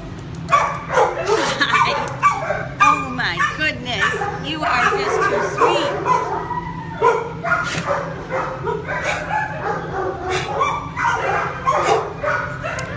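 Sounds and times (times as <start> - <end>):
dogs barking and yipping: 0.4 - 12.9.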